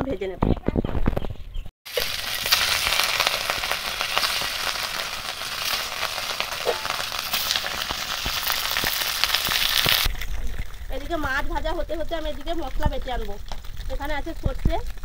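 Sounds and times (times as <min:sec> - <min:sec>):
fish sizzling in hot oil: 0:01.9 - 0:15.0.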